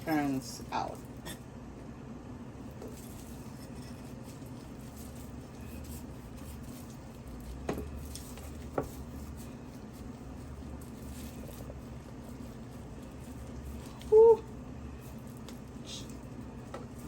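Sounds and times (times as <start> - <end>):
steady low hum: 0.0 - 17.0
faint scraping and rustling: 2.6 - 17.0.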